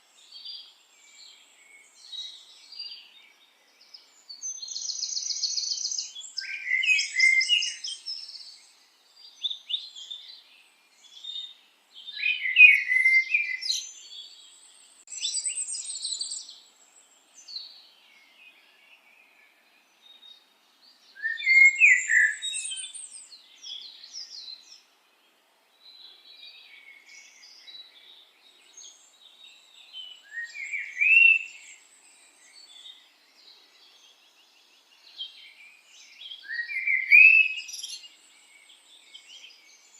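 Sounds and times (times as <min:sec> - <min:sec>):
birds singing and chirping: 0:00.1 - 0:39.9.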